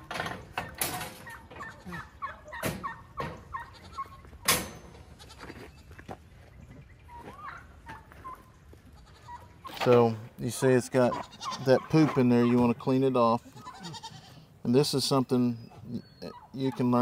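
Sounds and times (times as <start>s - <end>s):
farm animals chirping: 0.0s - 17.0s.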